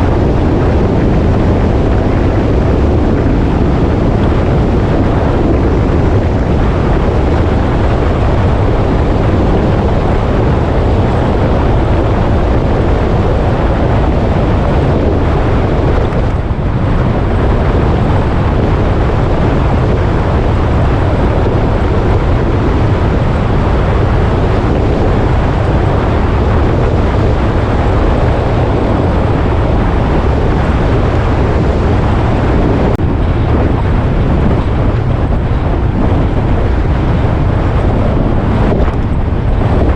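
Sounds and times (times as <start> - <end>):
road noise: 0.0 - 39.9
wind rushing on microphone: 0.0 - 39.9.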